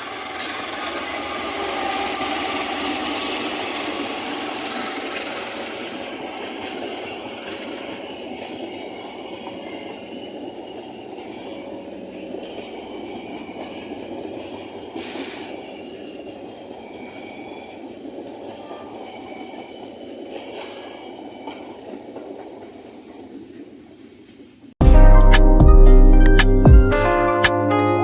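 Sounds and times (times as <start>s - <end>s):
train wheels rumbling on rails: 0.0s - 24.8s.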